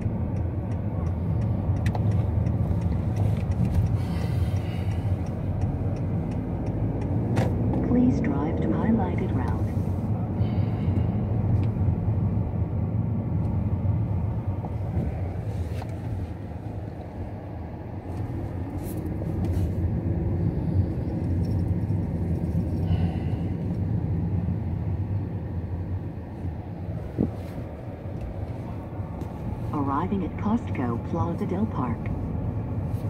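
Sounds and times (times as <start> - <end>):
car engine: 0.0 - 33.0
road rumble: 0.0 - 33.0.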